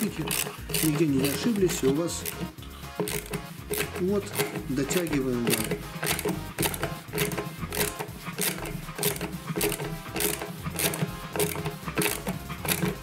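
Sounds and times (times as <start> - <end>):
socket ratchet clicking: 0.0 - 13.0.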